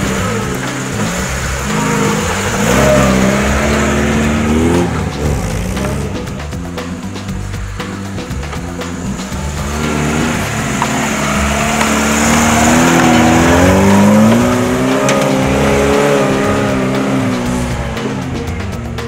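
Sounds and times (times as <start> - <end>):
car engine revving past: 0.0 - 6.5, 8.9 - 18.6.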